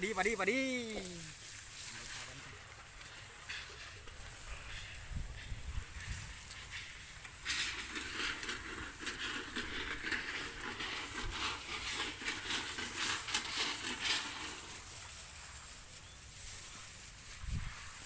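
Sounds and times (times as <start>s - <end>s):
corn plants rustling and crackling: 0.0s - 18.0s.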